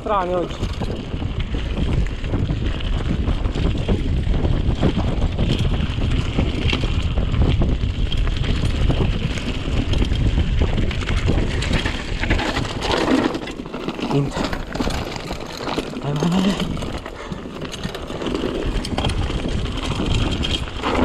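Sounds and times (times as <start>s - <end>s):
bike rattling and clicking: 0.0s - 21.0s
wind buffeting microphone: 0.0s - 21.0s.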